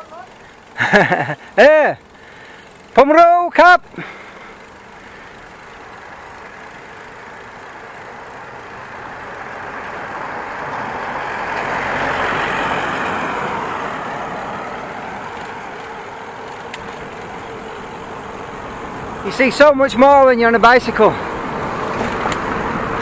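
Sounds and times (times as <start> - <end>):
vehicle passing: 4.0 - 23.0.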